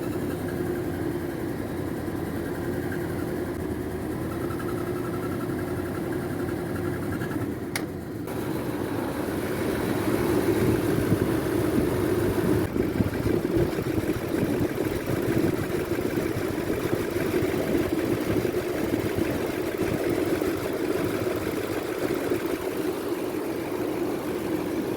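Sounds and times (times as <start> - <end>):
engine whining drone: 0.0 - 24.9.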